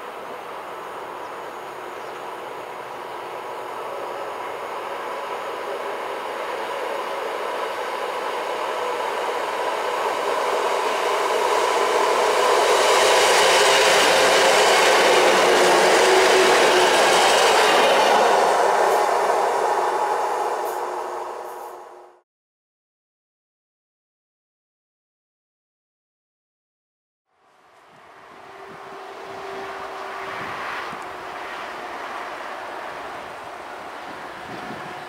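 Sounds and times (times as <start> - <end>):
electric train passing: 0.0 - 22.2, 27.4 - 35.0.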